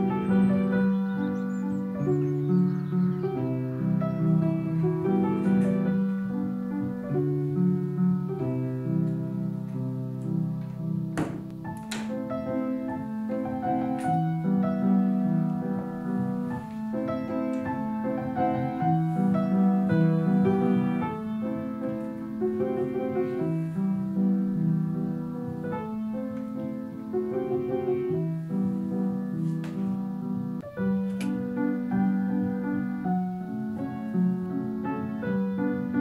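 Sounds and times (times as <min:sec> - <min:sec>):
slow solo piano music: 0:00.0 - 0:36.0.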